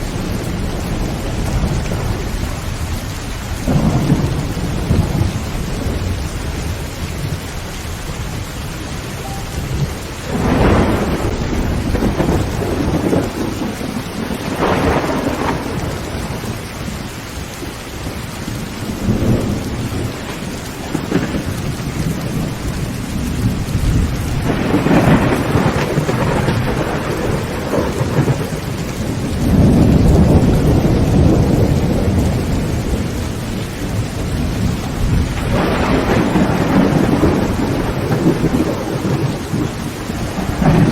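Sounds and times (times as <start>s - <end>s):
heavy rain on a tin roof: 0.0s - 40.9s
thunder rumbling: 0.0s - 40.9s.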